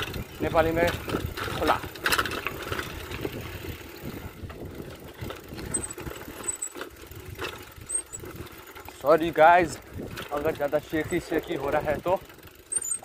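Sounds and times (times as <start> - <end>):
motorcycle engine at low speed: 0.0 - 13.0.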